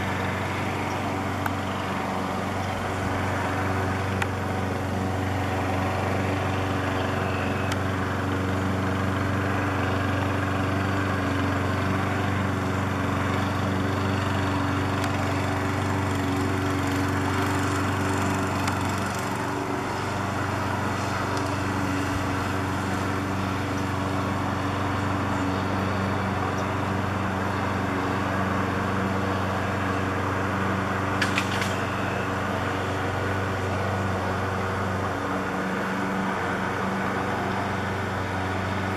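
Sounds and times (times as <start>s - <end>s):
motor humming: 0.0s - 38.9s.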